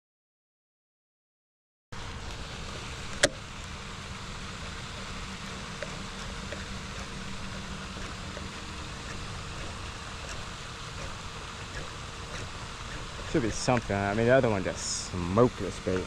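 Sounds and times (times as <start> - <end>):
background rumble and hiss: 2.0 - 16.0
faint hum: 2.0 - 16.0.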